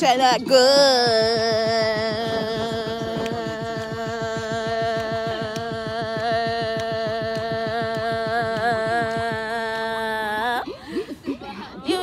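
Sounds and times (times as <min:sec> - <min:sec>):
girl singing a long note: 0:00.4 - 0:10.6.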